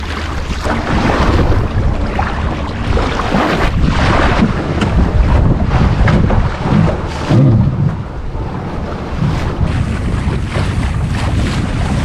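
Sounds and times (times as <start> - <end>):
water splashing and washing: 0.0 - 12.0
wind buffeting microphone: 0.0 - 12.0.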